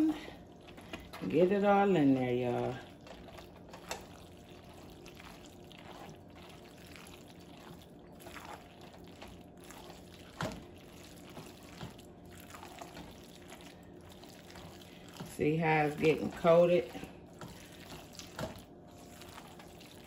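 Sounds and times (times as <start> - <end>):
wet squishing of stirred pasta: 0.0 - 20.0.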